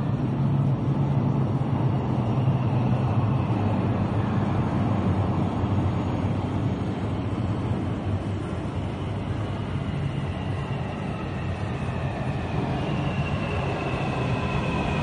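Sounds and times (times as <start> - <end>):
metro train rumbling in tunnel: 0.0 - 15.0.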